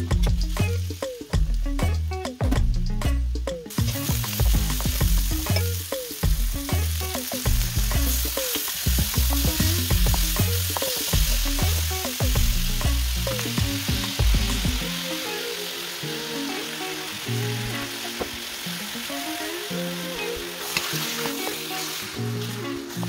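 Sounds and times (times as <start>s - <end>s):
onion and garlic sizzling in oil: 0.0s - 2.1s, 3.6s - 23.0s.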